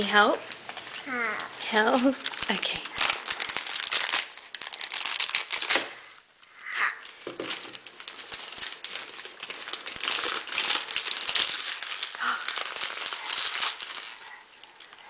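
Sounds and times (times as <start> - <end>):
wrapping paper tearing and crumpling: 0.0 - 15.0.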